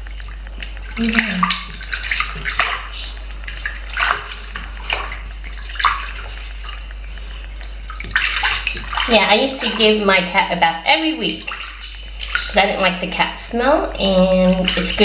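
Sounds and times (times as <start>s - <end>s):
bathtub water splashing: 0.0s - 15.0s.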